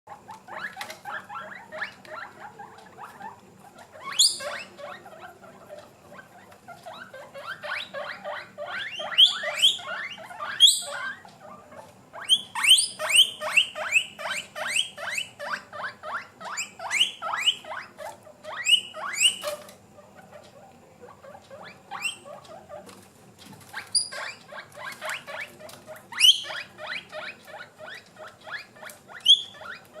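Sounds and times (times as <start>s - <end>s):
guinea pigs wheeking: 0.1s - 30.0s.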